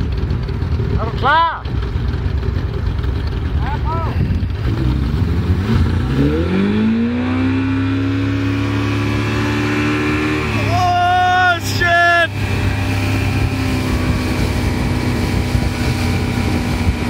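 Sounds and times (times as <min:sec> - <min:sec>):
boat engine: 0:00.0 - 0:17.0.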